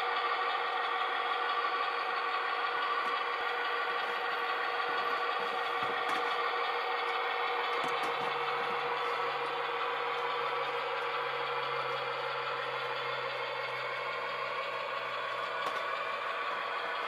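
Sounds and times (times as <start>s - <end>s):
model train engine drone: 0.0s - 17.0s.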